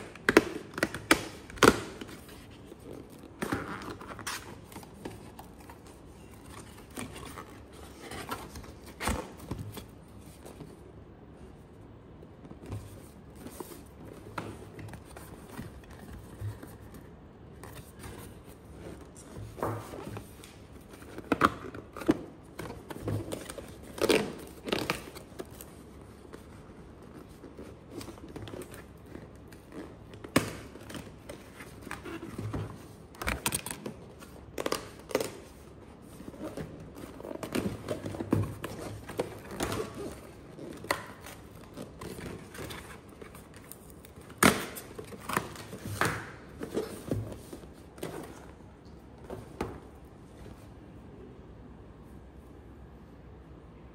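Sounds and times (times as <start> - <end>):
cardboard rustling and scraping: 1.5 - 11.0, 12.2 - 50.6.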